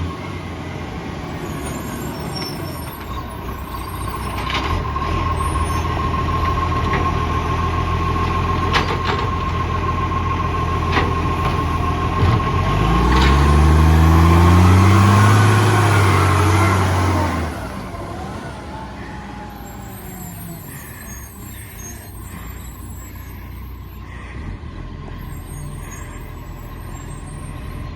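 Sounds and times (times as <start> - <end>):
truck diesel engine running: 0.0 - 27.9.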